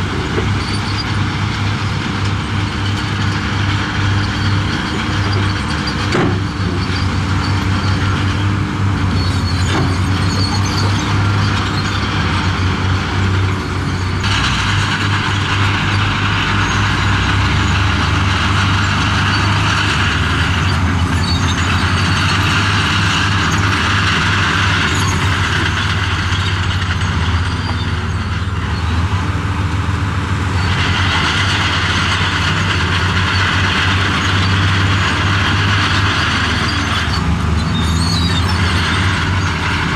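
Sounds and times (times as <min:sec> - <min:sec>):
machine grinding noise: 0:00.0 - 0:29.2, 0:30.5 - 0:39.9
diesel engine drone: 0:00.0 - 0:39.9.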